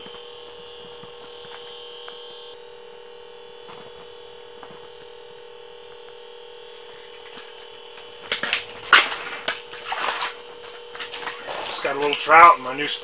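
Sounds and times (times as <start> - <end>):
high whine: 0.0 - 13.0
steady hum: 0.0 - 13.0.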